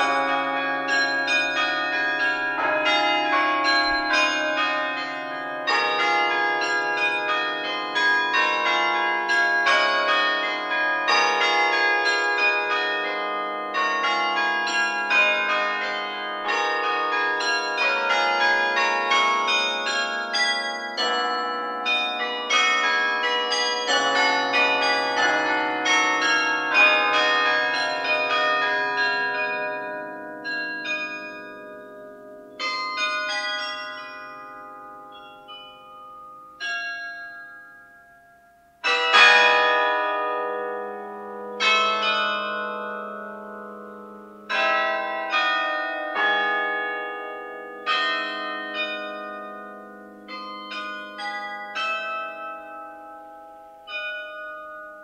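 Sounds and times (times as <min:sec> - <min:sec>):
carillon bells ringing: 0:00.0 - 0:38.2, 0:38.8 - 0:55.0.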